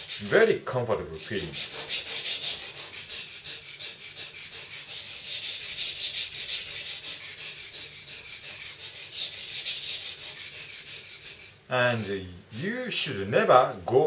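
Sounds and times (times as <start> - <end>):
knife blade scraping on whetstone: 1.1 - 12.7.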